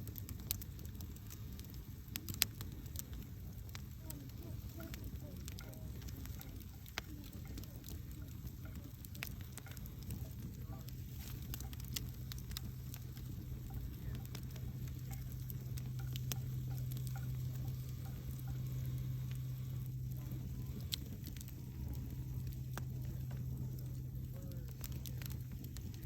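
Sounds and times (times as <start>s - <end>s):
campfire crackling and popping: 0.0s - 26.0s
steady low hum: 0.0s - 26.0s.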